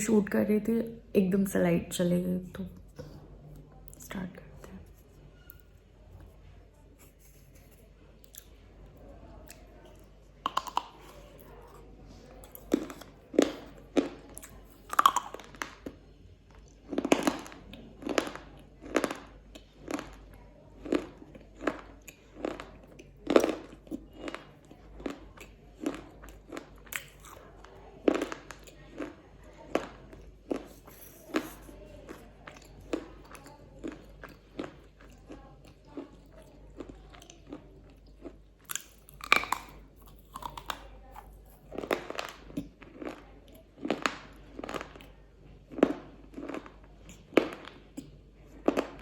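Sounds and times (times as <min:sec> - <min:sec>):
crunching while chewing: 0:07.0 - 0:49.0.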